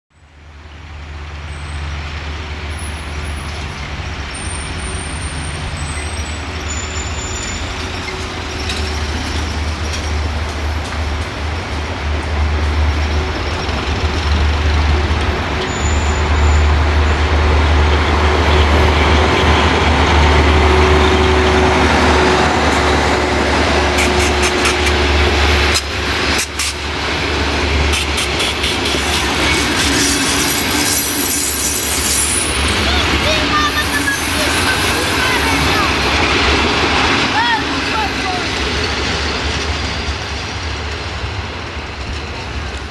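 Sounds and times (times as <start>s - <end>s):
diesel locomotive drone and whine: 0.2s - 42.9s
coaches rail clatter: 1.4s - 42.9s.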